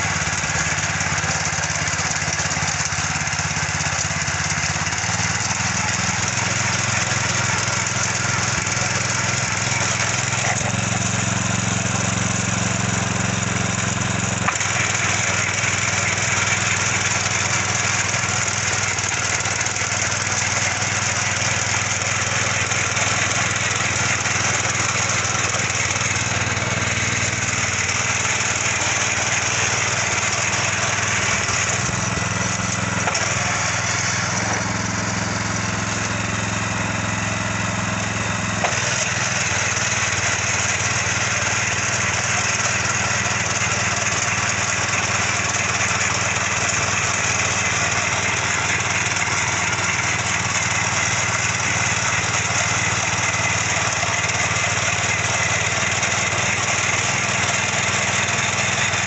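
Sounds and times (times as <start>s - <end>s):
small petrol engine running: 0.0s - 59.0s
tines grinding soil: 0.0s - 59.0s.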